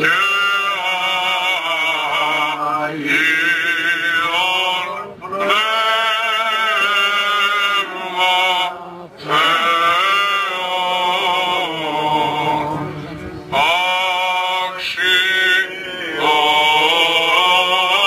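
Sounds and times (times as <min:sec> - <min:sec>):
man chanting liturgical chant: 0:00.0 - 0:18.0.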